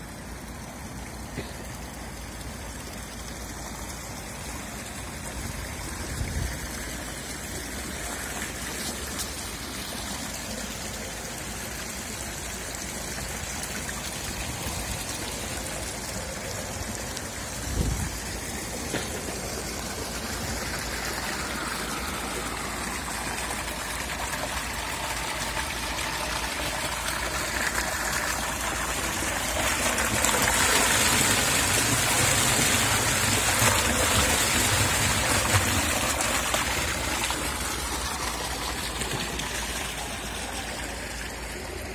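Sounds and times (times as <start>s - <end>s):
water pouring into stone trough: 0.0s - 41.9s.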